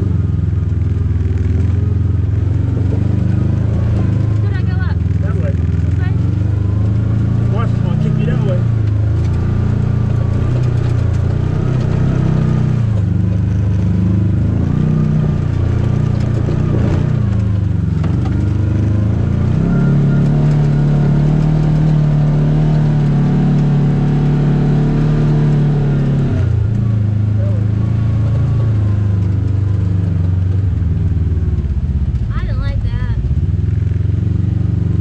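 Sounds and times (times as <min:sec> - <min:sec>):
utility vehicle engine running: 0:00.0 - 0:35.0.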